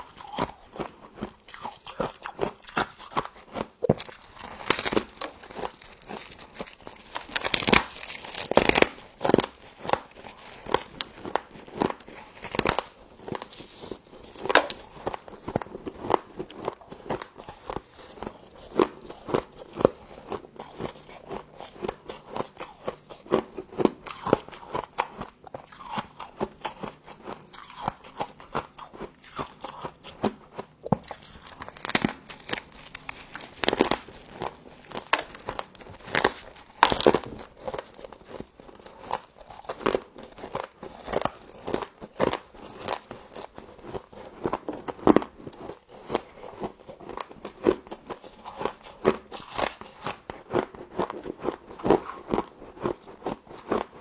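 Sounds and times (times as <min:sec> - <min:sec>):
frost crunching in mouth: 0:00.0 - 0:54.0.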